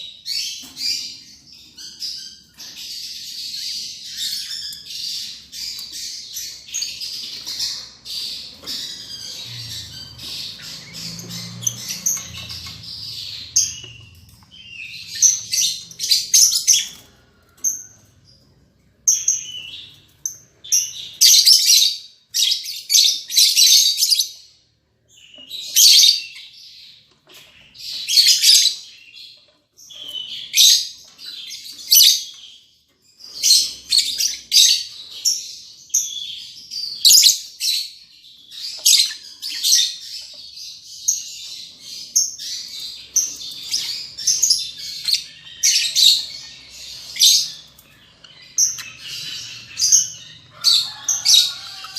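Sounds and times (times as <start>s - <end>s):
lovebirds chattering: 0.0s - 51.9s.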